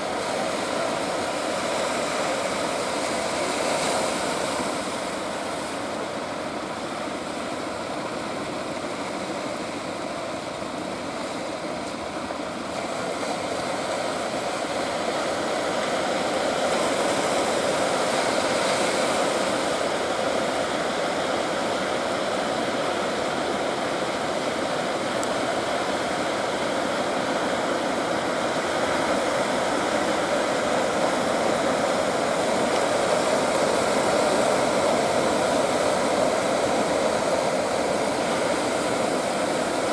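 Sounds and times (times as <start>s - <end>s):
surf and breaking waves: 0.0s - 39.9s.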